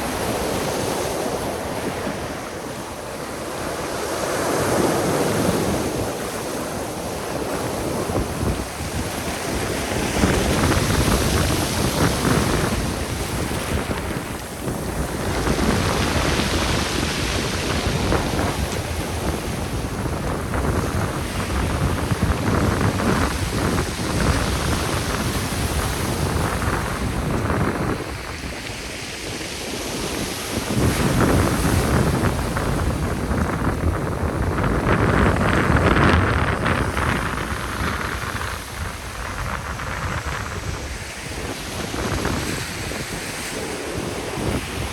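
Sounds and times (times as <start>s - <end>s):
waves breaking on shore: 0.0s - 44.9s
wind buffeting microphone: 0.0s - 44.9s.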